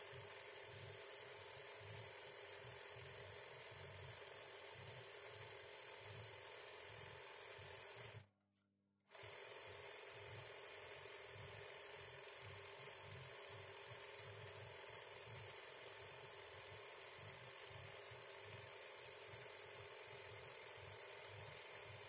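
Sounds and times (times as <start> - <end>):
sewing machine running: 0.0 - 8.3, 9.1 - 22.0.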